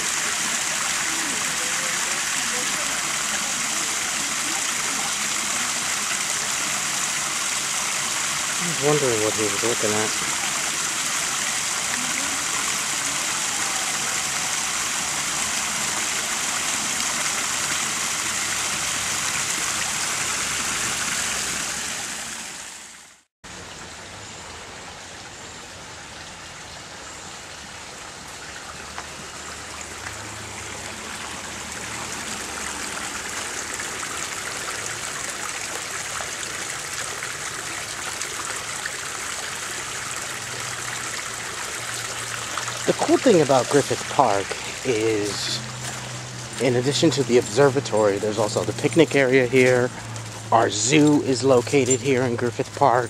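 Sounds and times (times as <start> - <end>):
creek water rushing over rocks: 0.0 - 53.0.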